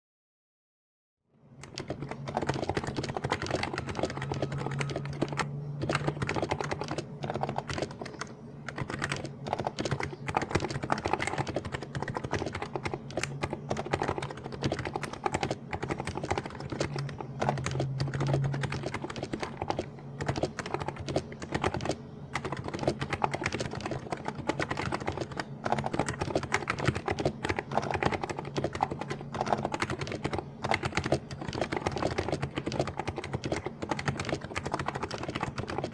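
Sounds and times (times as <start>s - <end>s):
fast typing on keyboard: 1.6s - 35.9s.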